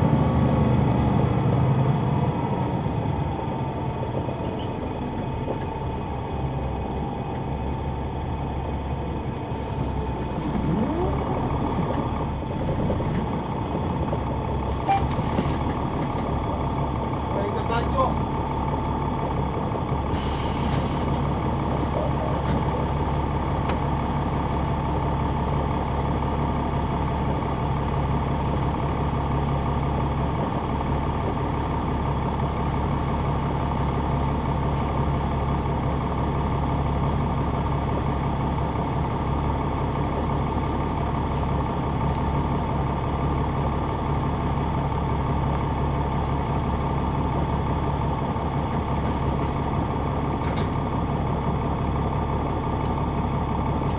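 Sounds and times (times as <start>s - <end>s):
diesel bus engine running: 0.0s - 53.9s.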